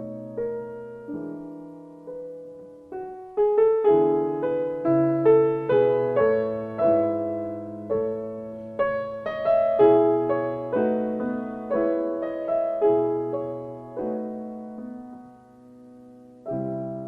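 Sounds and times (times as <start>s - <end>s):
slow solo piano chords: 0.0s - 17.0s.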